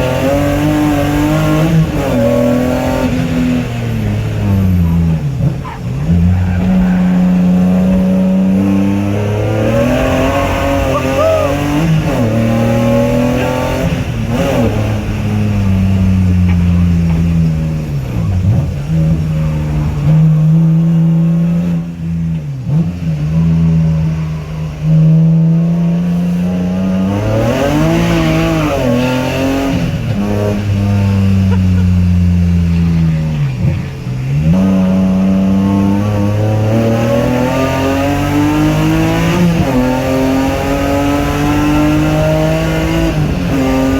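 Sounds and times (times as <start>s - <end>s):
racing car engine revving: 0.0s - 43.9s.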